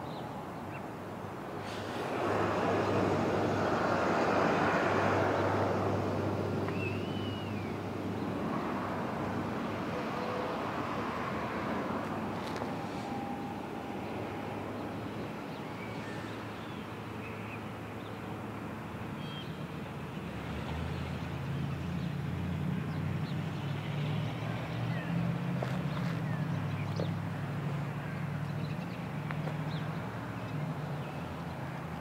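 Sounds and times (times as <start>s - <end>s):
traffic noise: 0.0s - 32.0s
vehicle engine hum: 1.6s - 32.0s.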